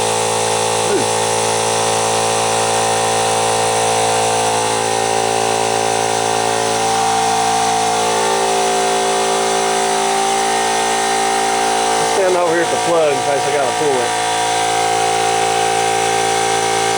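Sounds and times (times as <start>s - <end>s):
air compressor running: 0.0s - 16.9s.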